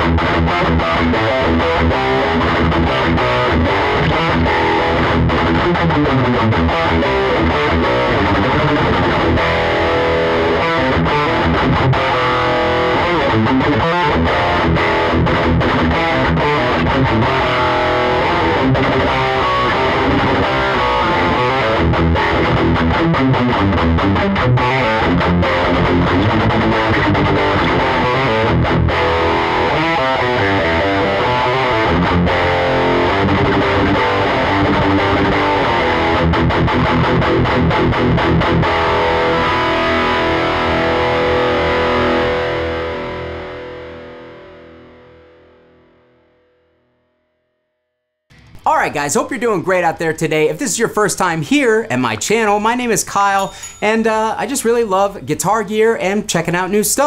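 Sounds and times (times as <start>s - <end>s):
distorted electric guitar riffing: 0.0s - 47.2s, 48.3s - 57.0s.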